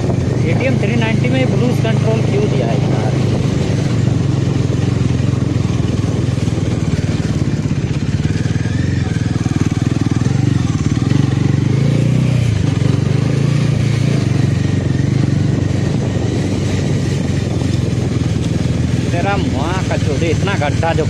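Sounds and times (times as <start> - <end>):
motorcycle engine cruising: 0.0 - 21.0
road noise: 0.0 - 21.0
wind noise: 0.0 - 21.0.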